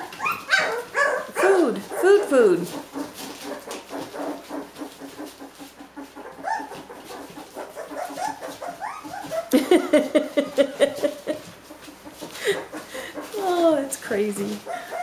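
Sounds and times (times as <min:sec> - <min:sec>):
puppies whimpering and squealing: 0:00.0 - 0:15.0
puppies yelping: 0:00.0 - 0:15.0.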